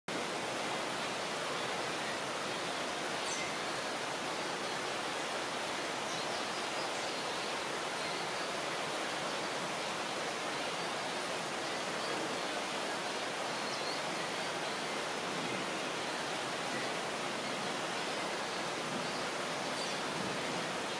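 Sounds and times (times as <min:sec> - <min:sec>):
steady rainforest hiss: 0:00.1 - 0:20.9.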